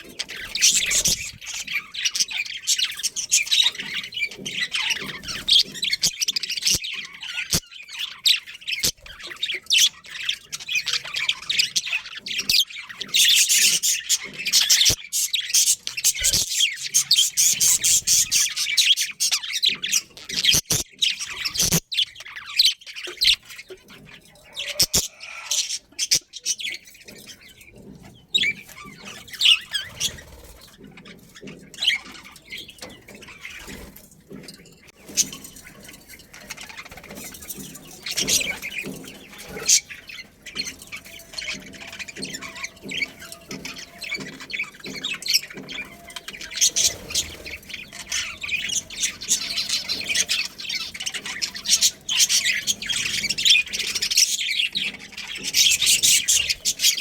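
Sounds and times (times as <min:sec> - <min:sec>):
budgerigars chirping and squawking: 0:00.0 - 0:57.0.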